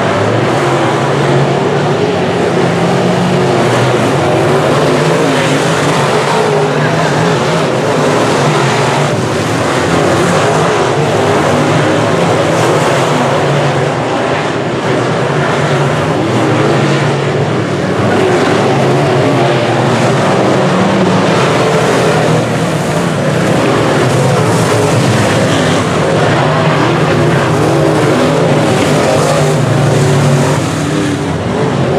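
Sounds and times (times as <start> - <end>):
race car engines droning: 0.0 - 31.9.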